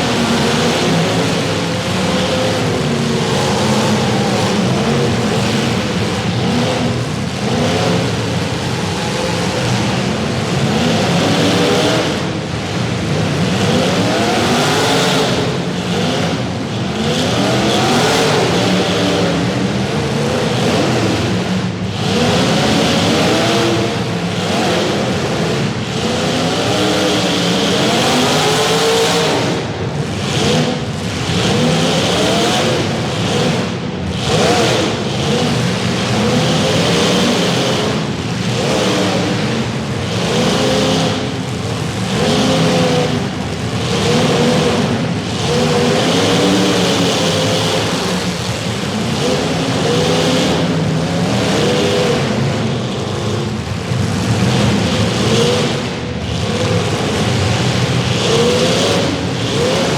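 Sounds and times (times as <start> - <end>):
car engines revving hard: 0.0 - 59.9.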